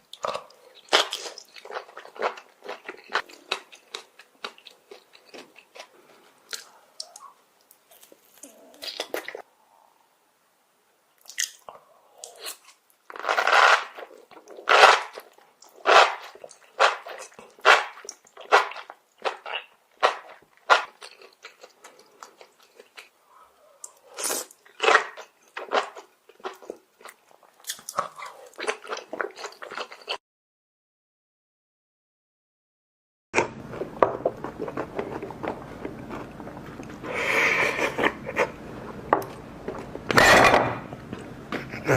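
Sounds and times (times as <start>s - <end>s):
person chewing crisp food: 0.0s - 9.5s, 11.2s - 30.2s, 33.4s - 38.6s.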